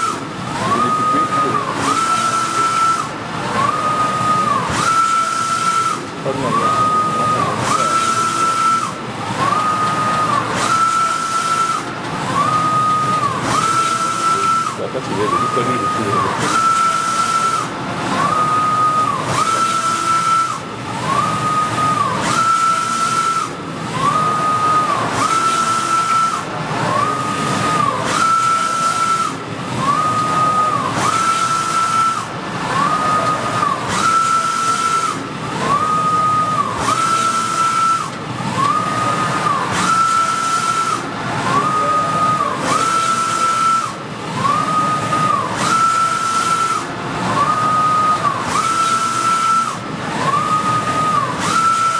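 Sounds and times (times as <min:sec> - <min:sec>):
inkjet printer carriage whine: 0:00.0 - 0:51.9.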